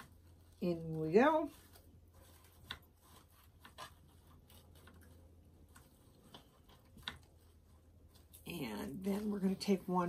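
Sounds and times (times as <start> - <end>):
hands rustling flower stems: 0.0 - 10.0
low steady hum: 0.0 - 10.0.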